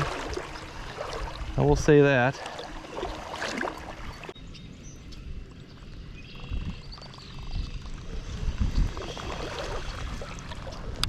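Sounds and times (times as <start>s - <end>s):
water lapping against boat: 0.0s - 4.4s, 6.4s - 11.0s
wind rumbling on microphone: 0.0s - 11.0s.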